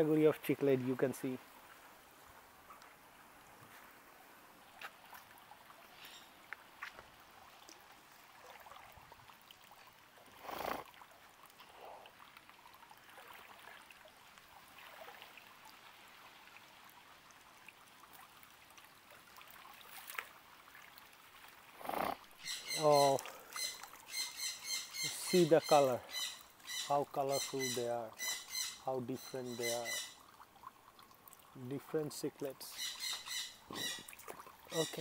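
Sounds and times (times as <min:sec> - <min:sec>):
water trickling and splashing: 0:00.0 - 0:35.0.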